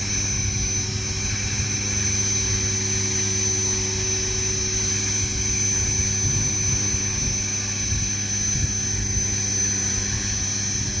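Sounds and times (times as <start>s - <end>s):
model helicopter rotor whining: 0.0s - 11.0s.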